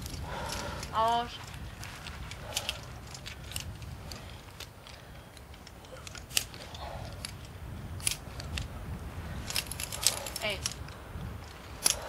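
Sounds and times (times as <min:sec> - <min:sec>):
metal carabiners clicking: 0:00.0 - 0:12.0.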